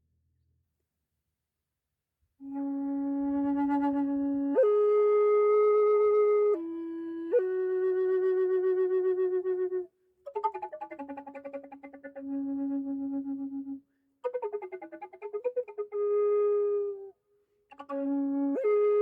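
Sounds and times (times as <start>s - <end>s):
flute slow melody: 2.4s - 19.0s.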